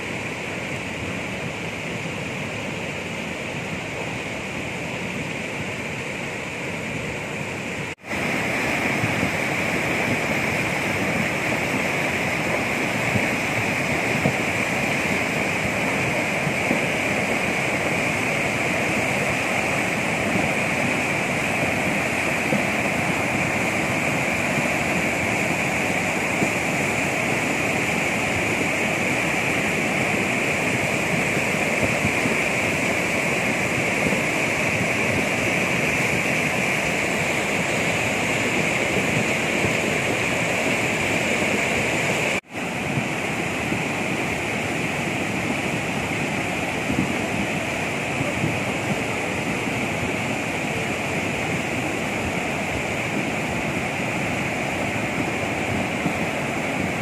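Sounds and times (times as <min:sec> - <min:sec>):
river rushing over boulders: 0:00.0 - 0:57.0.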